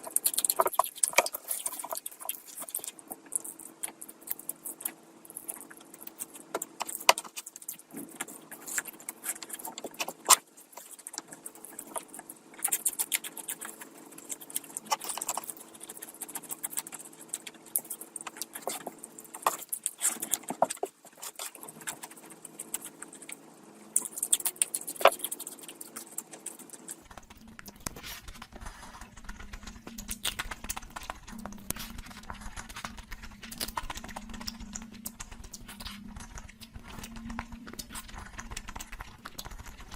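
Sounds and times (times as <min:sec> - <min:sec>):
chewing with wet mouth clicks: 0:00.0 - 0:39.9.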